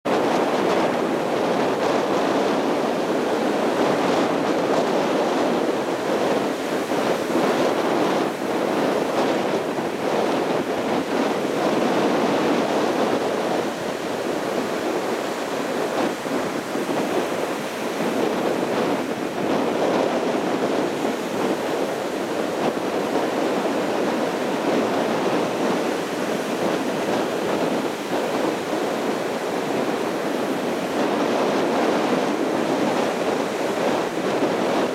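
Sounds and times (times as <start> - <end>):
surf breaking on beach: 0.0 - 34.9.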